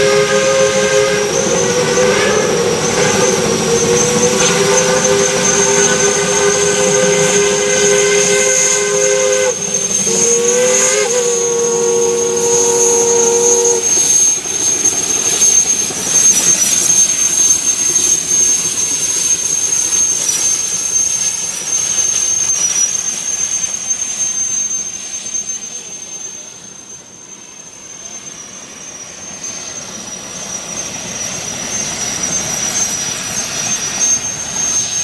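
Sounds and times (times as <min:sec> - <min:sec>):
rushing hiss of steam: 0:00.0 - 0:35.0
steam locomotive chime whistle: 0:00.0 - 0:35.0.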